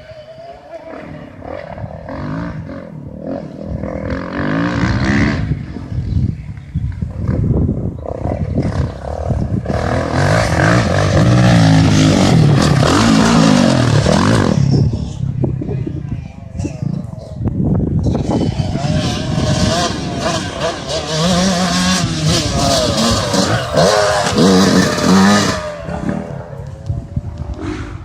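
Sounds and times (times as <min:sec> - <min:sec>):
motocross motorcycles revving: 0:00.0 - 0:28.0.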